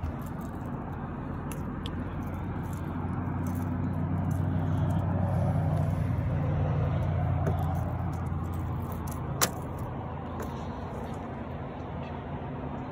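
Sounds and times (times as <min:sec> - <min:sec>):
boat motor humming: 0:00.0 - 0:11.5.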